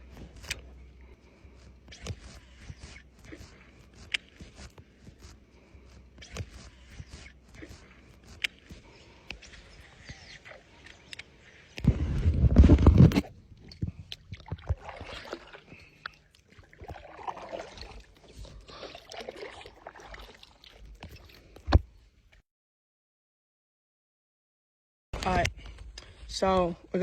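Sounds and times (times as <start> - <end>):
water sloshing: 0.0 - 21.7.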